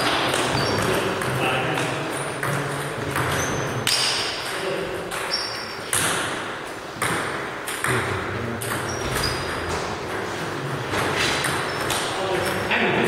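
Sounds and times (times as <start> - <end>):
table tennis balls pinging: 0.0 - 12.8.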